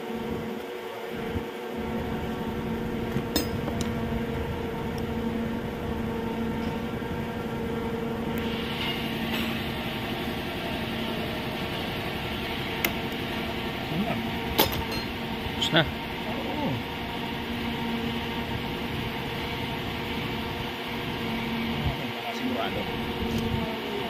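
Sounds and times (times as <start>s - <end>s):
machine humming: 0.0s - 24.0s.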